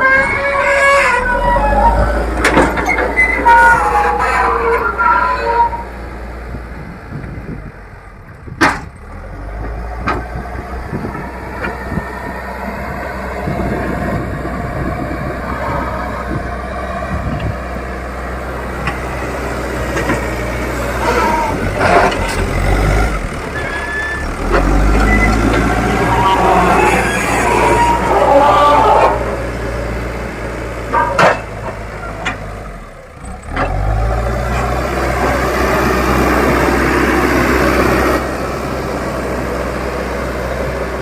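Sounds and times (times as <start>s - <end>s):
backhoe diesel engine running: 0.0s - 41.0s.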